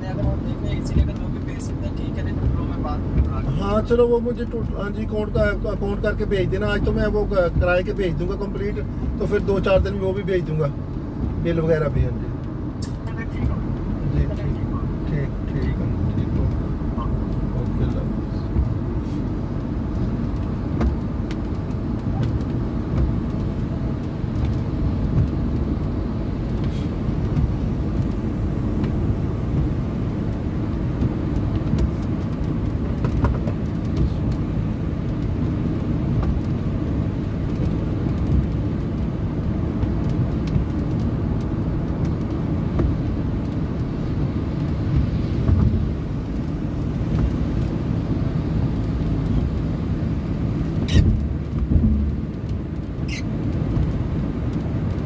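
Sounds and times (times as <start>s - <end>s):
vehicle motor rumbling: 0.0s - 55.0s.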